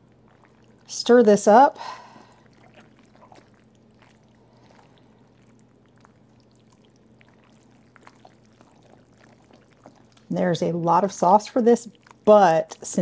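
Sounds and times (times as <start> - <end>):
steady low hum: 0.0 - 13.0
wet squelching of sauce stirred: 0.0 - 13.0.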